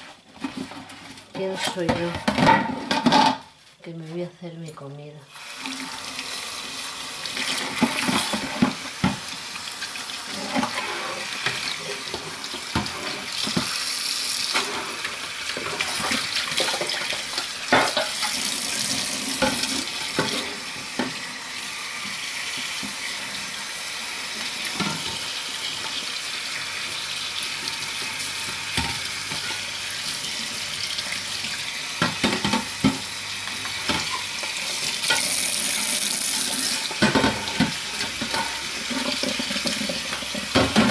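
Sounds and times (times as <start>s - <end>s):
tap water running into sink: 5.3s - 40.9s.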